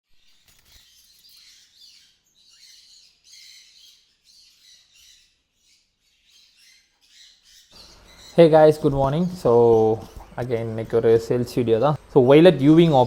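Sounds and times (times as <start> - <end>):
lovebirds chirping: 0.2 - 13.0.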